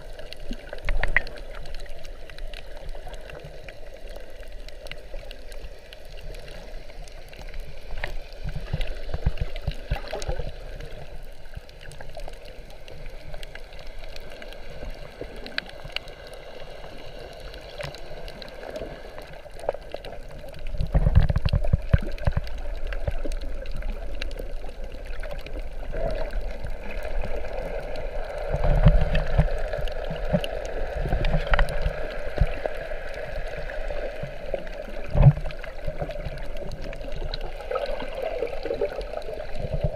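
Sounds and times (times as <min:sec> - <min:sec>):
low underwater rumbles: 0:00.0 - 0:39.9
small underwater clicks: 0:00.0 - 0:39.9
underwater sloshing and gurgling: 0:00.0 - 0:39.9.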